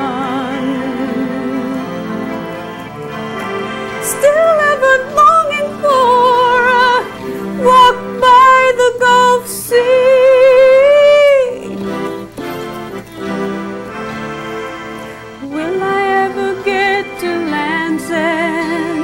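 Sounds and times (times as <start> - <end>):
woman singing with vibrato: 0.0 - 12.2, 15.4 - 19.0
acoustic guitar: 0.0 - 19.0
keyboard: 0.0 - 19.0
violin: 0.0 - 19.0.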